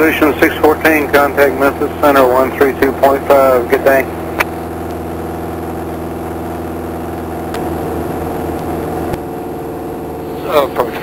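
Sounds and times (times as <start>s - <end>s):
light aircraft engine drone: 0.0s - 11.0s.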